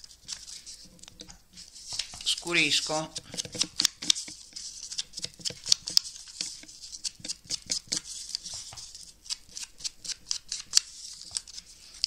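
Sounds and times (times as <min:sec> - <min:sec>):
papery taps and scuffs: 0:00.2 - 0:11.7.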